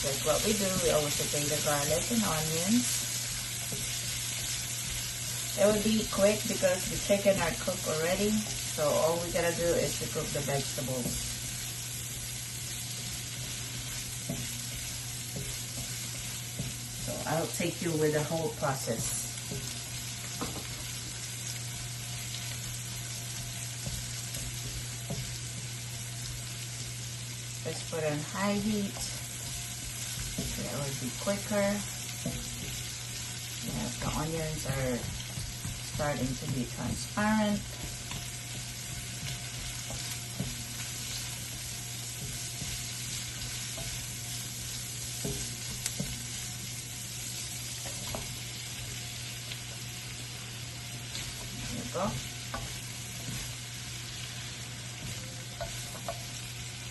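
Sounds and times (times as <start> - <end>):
onions sizzling in oil: 0.0 - 56.9.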